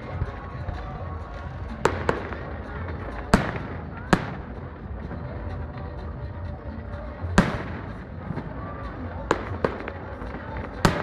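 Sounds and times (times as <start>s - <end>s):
fireworks bursting with sharp bangs: 0.0s - 6.1s, 7.2s - 11.0s.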